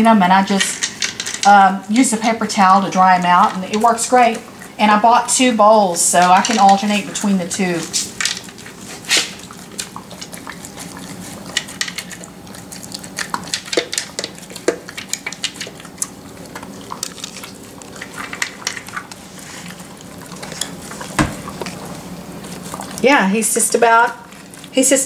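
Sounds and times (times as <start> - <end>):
dog eating kibble from plastic bowl: 0.4 - 25.0.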